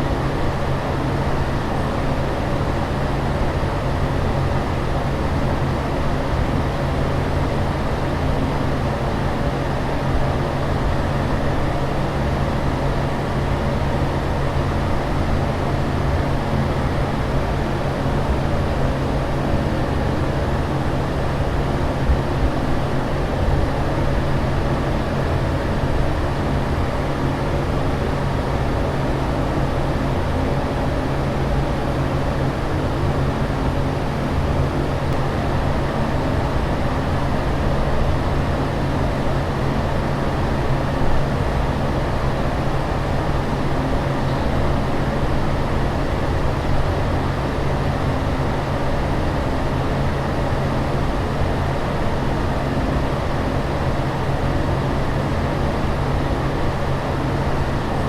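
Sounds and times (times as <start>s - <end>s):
airliner cabin drone: 0.0s - 58.0s.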